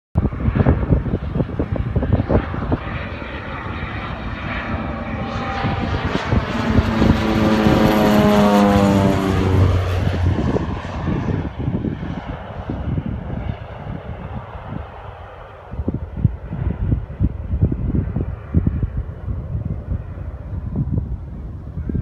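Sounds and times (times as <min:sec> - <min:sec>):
low-flying propeller plane: 0:00.2 - 0:22.0.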